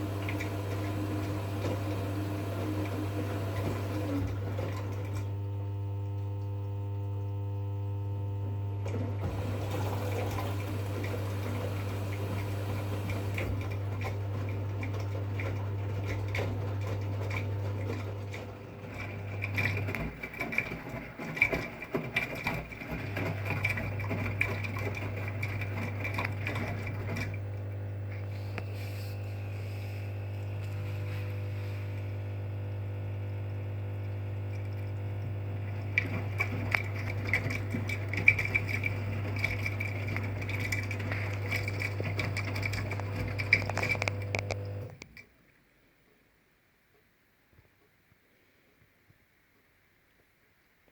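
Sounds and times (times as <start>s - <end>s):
water sloshing and splashing: 0.0s - 7.4s, 8.8s - 45.4s
washing machine humming: 0.0s - 45.2s.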